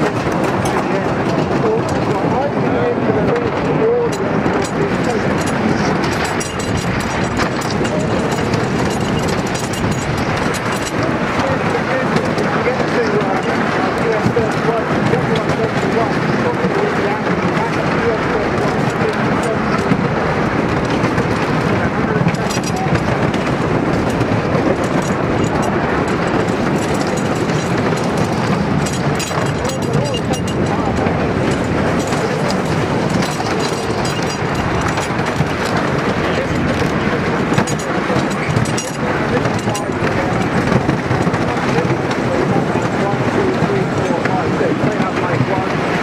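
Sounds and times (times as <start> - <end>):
roller coaster wheels rumbling: 0.0 - 46.0
track clatters and knocks: 0.0 - 46.0.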